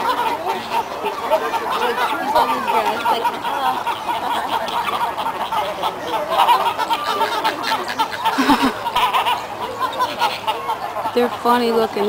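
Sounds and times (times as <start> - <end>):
flamingos honking: 0.0 - 12.0.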